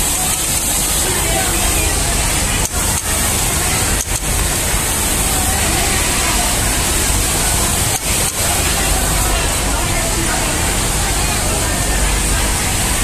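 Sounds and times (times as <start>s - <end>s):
loud even hiss: 0.0s - 13.0s.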